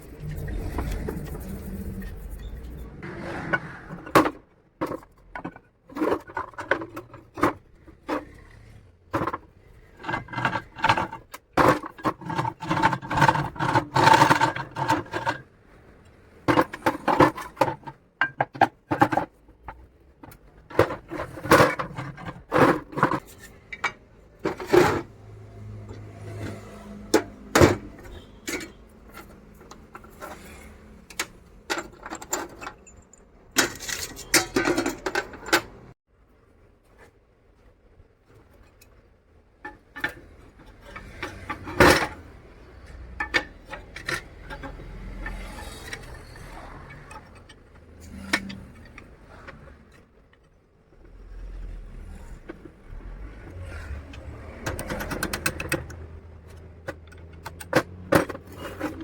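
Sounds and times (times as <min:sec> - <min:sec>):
metal parts clanking and scraping: 0:00.0 - 0:36.0, 0:38.3 - 0:59.0.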